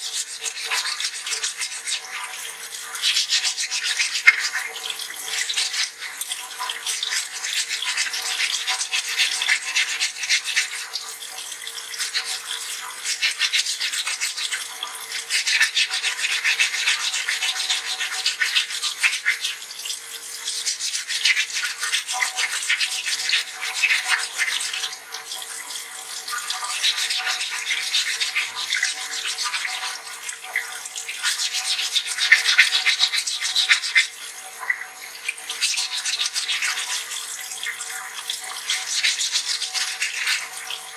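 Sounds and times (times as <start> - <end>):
tap water running into sink: 0.0 - 40.9.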